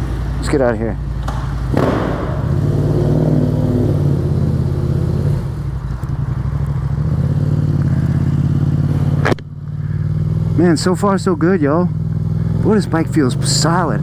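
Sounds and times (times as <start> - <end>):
motorcycle engine riding off: 0.0 - 14.0.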